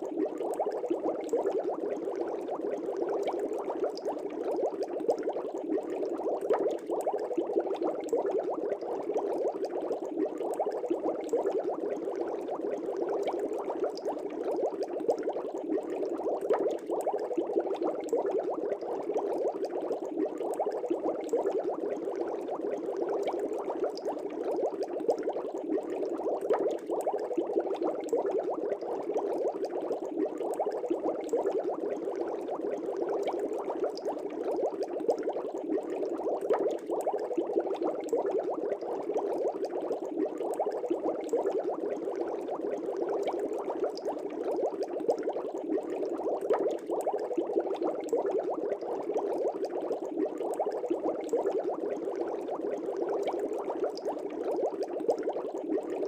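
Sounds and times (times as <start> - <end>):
aquarium air bubbling: 0.0 - 56.0.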